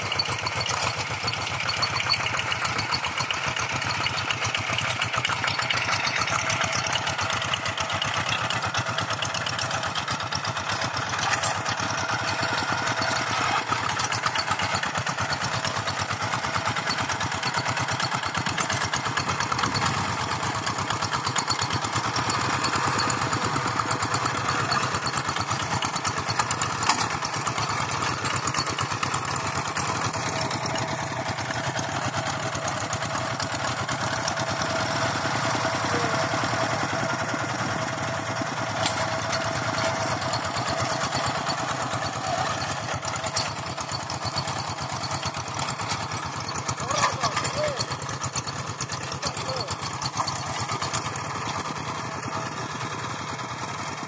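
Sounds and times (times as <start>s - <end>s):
tractor engines chugging: 0.0s - 54.0s.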